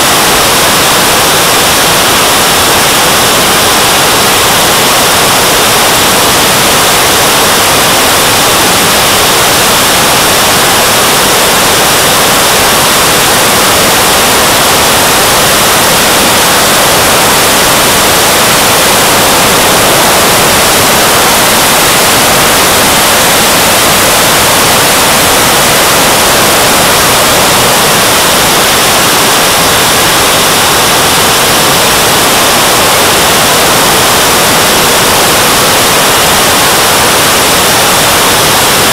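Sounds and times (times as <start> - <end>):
jet turbine hissing: 0.0 - 38.9.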